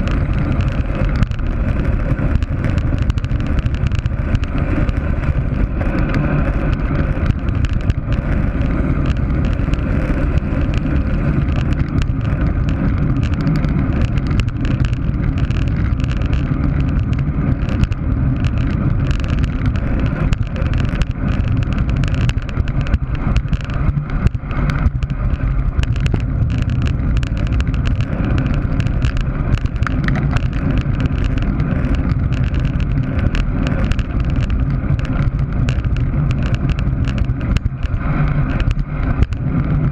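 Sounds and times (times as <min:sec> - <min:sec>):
small ticks and knocks: 0:00.0 - 0:39.9
tyre and road rumble: 0:00.0 - 0:39.9
wind buffeting microphone: 0:00.0 - 0:39.9.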